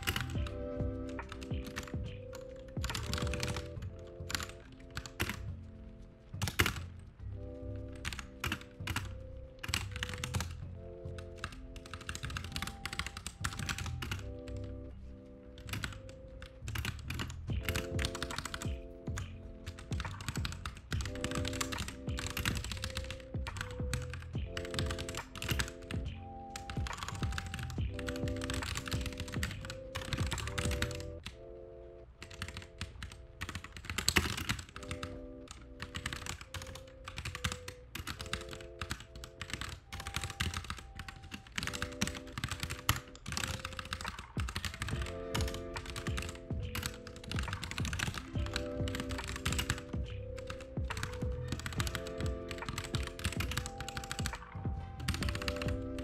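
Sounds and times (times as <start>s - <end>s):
typing on computer keyboard: 0.0s - 31.5s, 32.2s - 56.0s
soft lofi background music: 0.0s - 56.0s.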